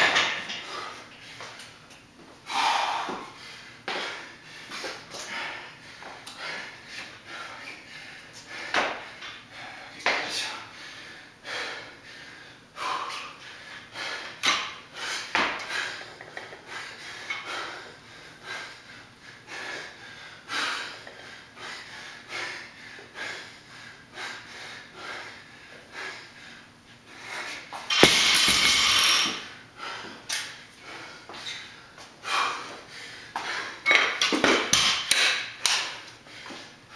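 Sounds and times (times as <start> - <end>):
man breathing hard: 0.5 - 1.8, 2.4 - 34.0, 34.8 - 36.9.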